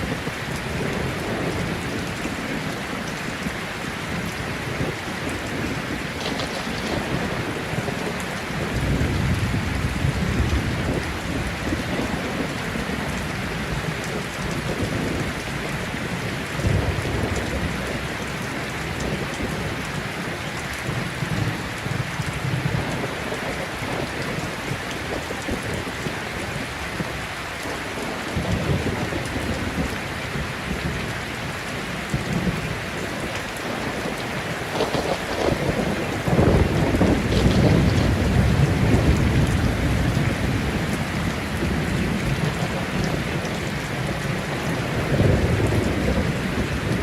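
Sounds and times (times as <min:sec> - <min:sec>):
thunder rumbling: 0:00.0 - 0:19.9, 0:20.8 - 0:47.0
heavy rain falling: 0:00.0 - 0:47.0.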